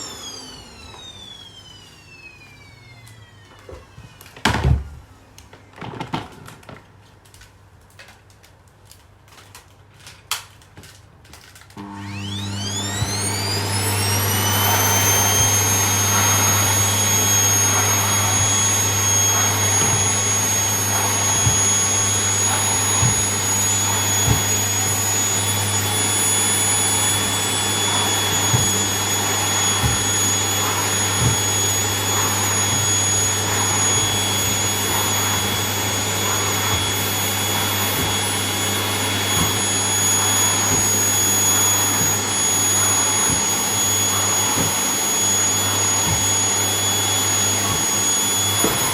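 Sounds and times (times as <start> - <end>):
vacuum cleaner running: 0.0 - 6.0, 11.8 - 48.9.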